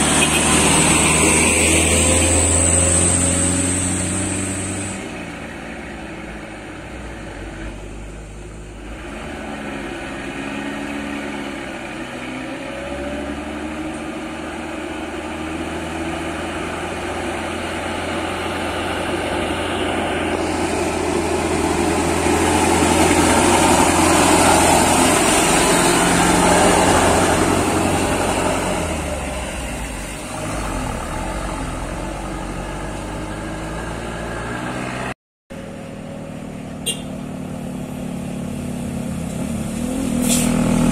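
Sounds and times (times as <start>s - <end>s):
diesel truck labouring uphill: 0.0s - 40.9s.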